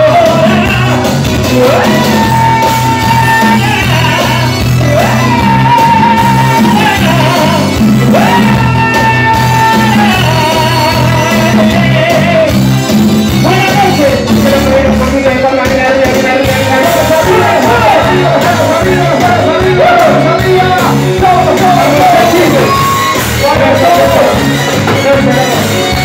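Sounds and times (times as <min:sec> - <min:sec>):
male singer: 0:00.0 - 0:22.8, 0:23.4 - 0:26.0
congas: 0:00.0 - 0:26.0
drums: 0:00.0 - 0:26.0.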